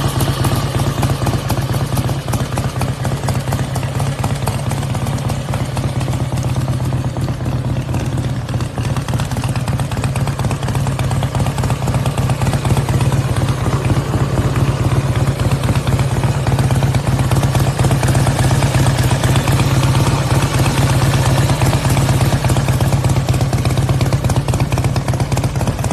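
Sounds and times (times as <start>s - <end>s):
motorcycle engine pulsing: 0.0s - 25.9s.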